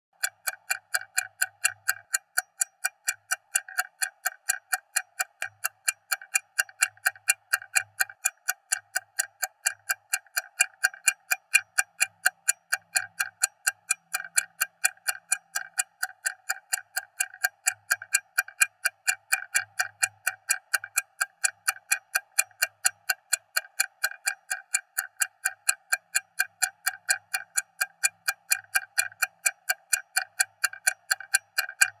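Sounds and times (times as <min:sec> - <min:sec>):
stopwatch ticking: 0:00.2 - 0:32.0.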